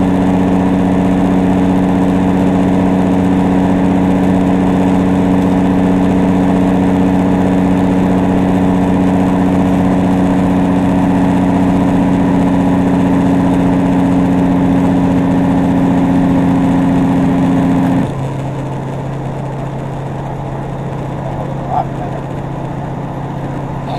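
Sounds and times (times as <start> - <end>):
diesel engine drone: 0.0 - 23.9.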